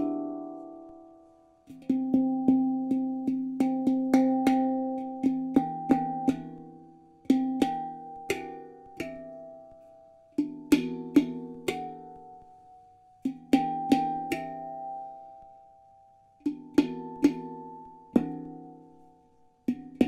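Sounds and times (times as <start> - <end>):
handpan notes played by hand: 0.0 - 20.0.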